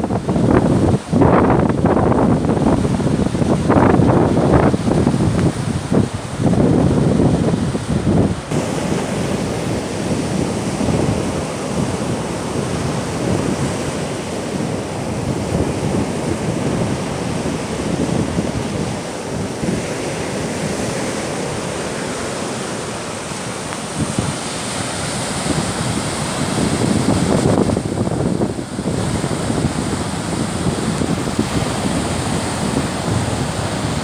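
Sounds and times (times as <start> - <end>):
waves breaking on beach: 0.0 - 34.0
wind buffeting microphone: 0.0 - 34.0.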